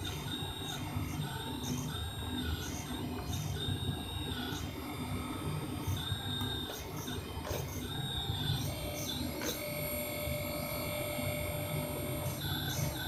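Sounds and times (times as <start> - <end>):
hydraulic pump humming: 0.0 - 13.0
servos whining: 0.0 - 13.0.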